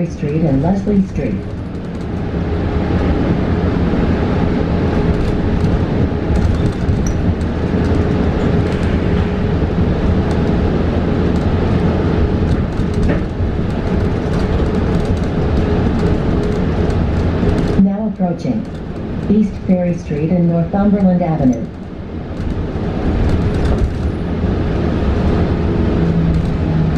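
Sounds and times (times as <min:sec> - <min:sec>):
bus road rumble: 0:00.0 - 0:26.9.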